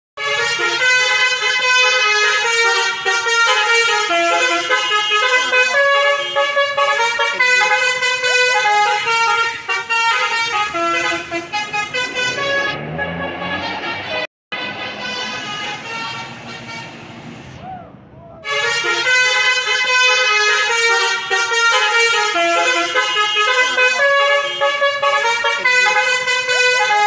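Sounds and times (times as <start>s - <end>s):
bus horn playing a melody: 0.2s - 17.4s, 18.4s - 27.0s.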